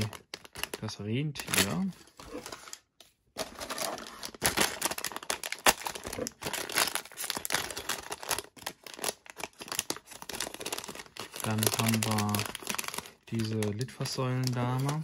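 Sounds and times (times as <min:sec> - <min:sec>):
foil bag crinkling: 0:00.0 - 0:02.8, 0:03.4 - 0:15.0.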